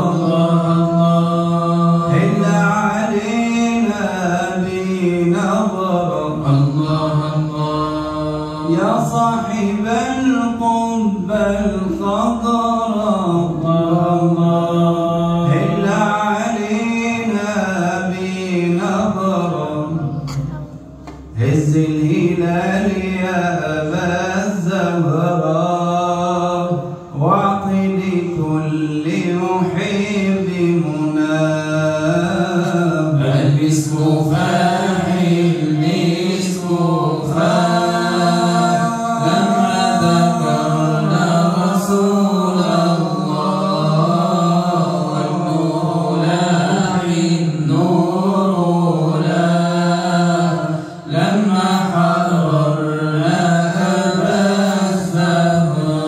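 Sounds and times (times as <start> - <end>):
unaccompanied devotional chanting: 0.0 - 56.0.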